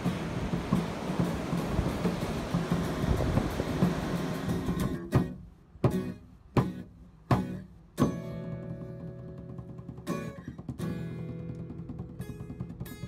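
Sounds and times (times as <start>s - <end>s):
guitar chords strummed: 0.0s - 13.0s.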